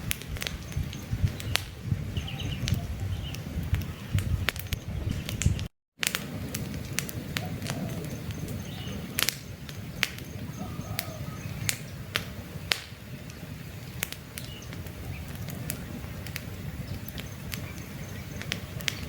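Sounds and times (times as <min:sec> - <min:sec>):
sharp pops and snaps: 0:00.0 - 0:01.8, 0:02.6 - 0:19.0
campfire crackling: 0:00.0 - 0:19.0
low rumble of burning fire: 0:00.0 - 0:19.0.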